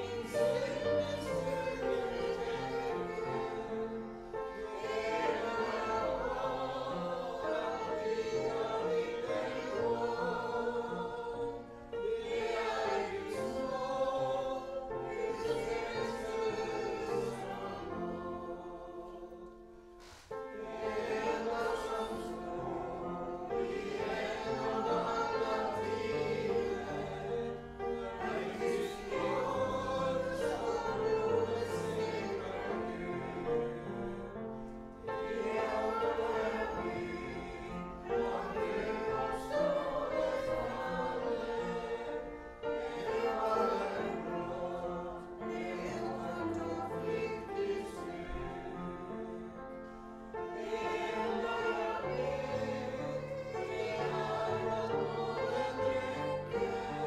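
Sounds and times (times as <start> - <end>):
congregation singing a hymn: 0.0 - 57.0
upright piano: 0.0 - 57.0.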